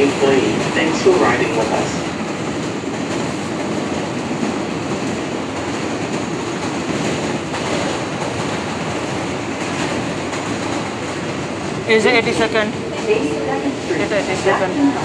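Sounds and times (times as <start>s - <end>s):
subway car running: 0.0s - 15.0s.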